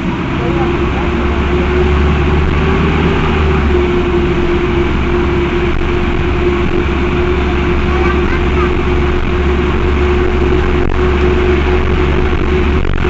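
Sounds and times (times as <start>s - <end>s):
bus diesel engine running: 0.0s - 13.0s
radiator fan whirring: 0.0s - 13.0s.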